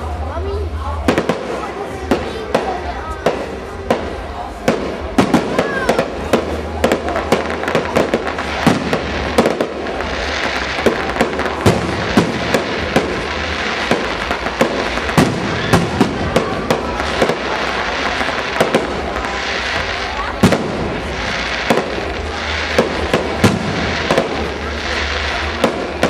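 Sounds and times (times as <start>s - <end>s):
dense firework hiss: 0.0s - 26.0s
firework shells bursting bangs: 1.1s - 26.0s.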